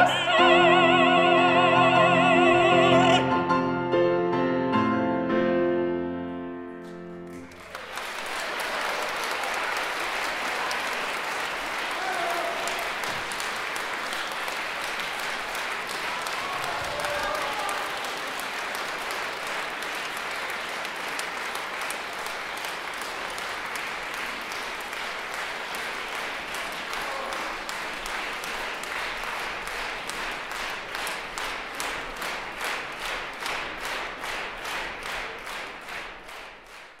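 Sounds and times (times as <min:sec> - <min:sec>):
audience applauding: 0:06.8 - 0:37.0
rhythmic clapping in unison: 0:06.8 - 0:37.0.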